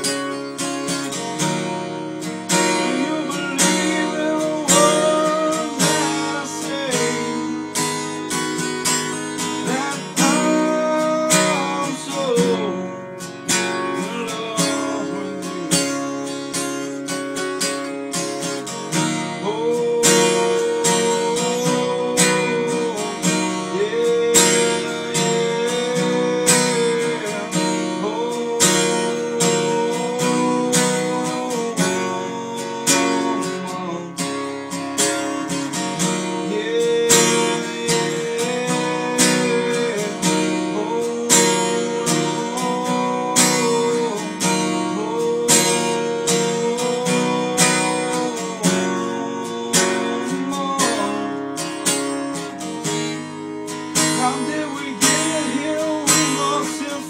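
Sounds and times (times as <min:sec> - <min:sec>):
acoustic guitar strumming: 0:00.0 - 0:57.0
man singing: 0:00.0 - 0:57.0.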